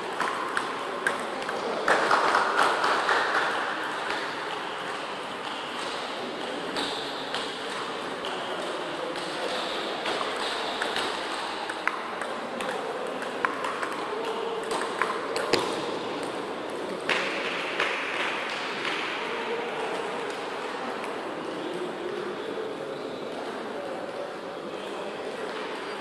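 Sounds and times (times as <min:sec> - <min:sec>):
background noise: 0:00.0 - 0:26.0.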